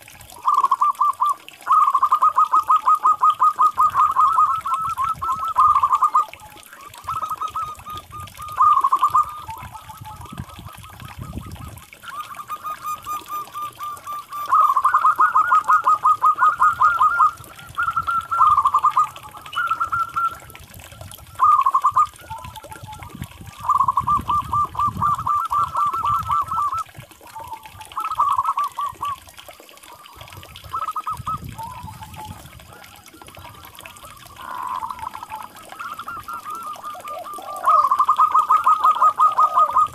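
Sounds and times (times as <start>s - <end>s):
dove cooing trills: 0.0s - 39.9s.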